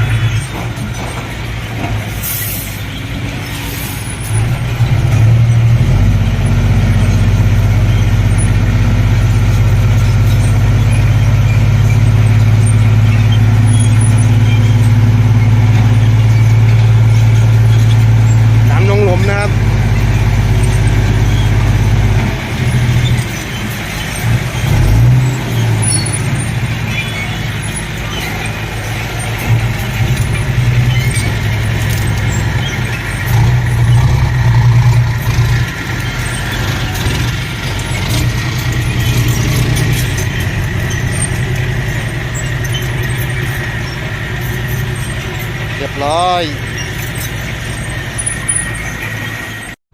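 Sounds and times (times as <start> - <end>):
heavy diesel engine running: 0.0 - 49.8.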